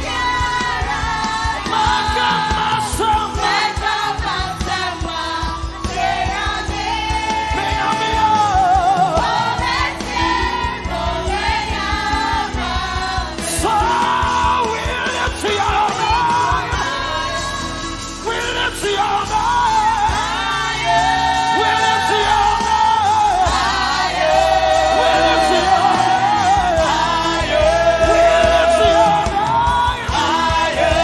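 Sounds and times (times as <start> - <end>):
driving drum beat: 0.0 - 31.0
gospel band with lead singer: 0.0 - 31.0.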